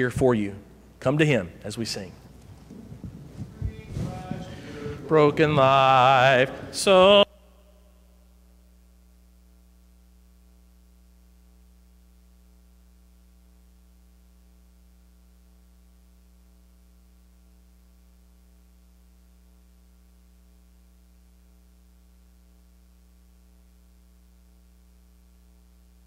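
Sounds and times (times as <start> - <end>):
low electrical mains hum: 0.0 - 26.0.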